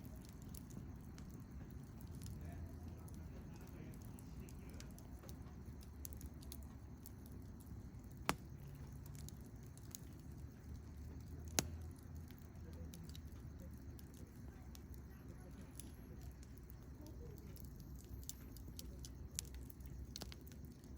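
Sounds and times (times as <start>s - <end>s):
campfire crackling quietly: 0.0s - 20.9s
low steady rumble: 0.0s - 20.9s
sharp pops of fire: 0.0s - 20.9s.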